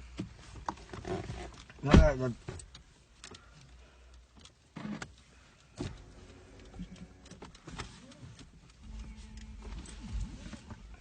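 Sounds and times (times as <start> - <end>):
low rumble inside a car: 0.0 - 11.0.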